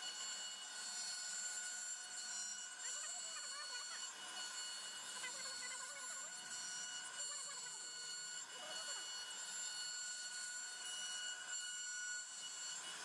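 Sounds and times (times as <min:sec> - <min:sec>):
router spindle high-pitched whine: 0:00.0 - 0:13.0.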